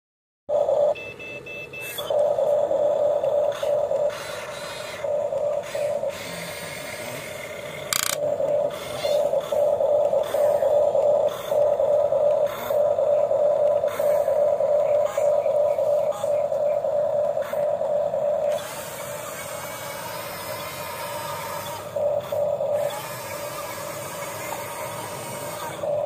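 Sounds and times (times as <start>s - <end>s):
electric motors whirring: 0.7s - 26.0s.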